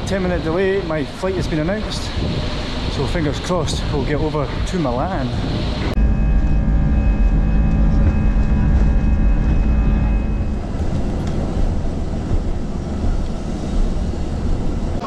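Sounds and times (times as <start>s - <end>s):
deep rumble of engines and wheels: 0.0s - 15.0s
whining jet engine tones: 0.0s - 15.0s.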